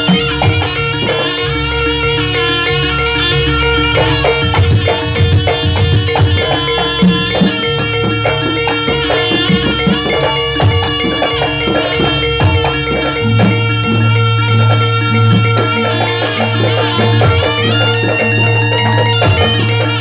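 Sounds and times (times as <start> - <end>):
hand drums beating: 0.0 - 20.0
steady drone: 0.0 - 20.0.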